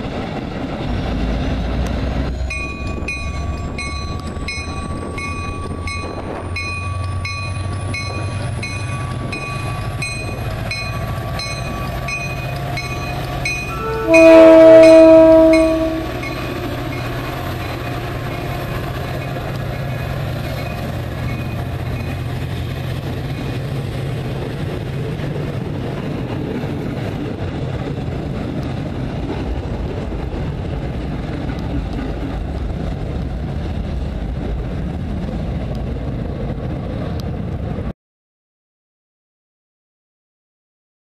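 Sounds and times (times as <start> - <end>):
diesel locomotive rumbling: 0.0 - 37.9.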